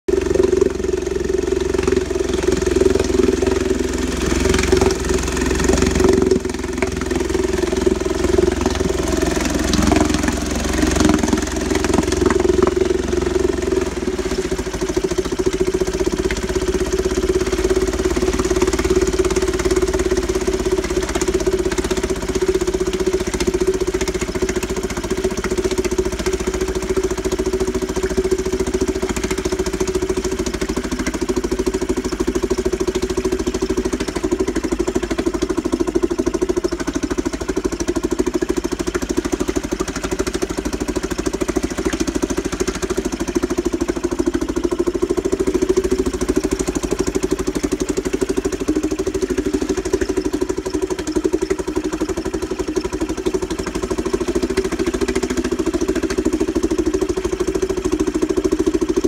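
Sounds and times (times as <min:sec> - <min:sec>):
outboard motor running: 0:00.0 - 0:59.0
propeller churning water: 0:00.0 - 0:59.0.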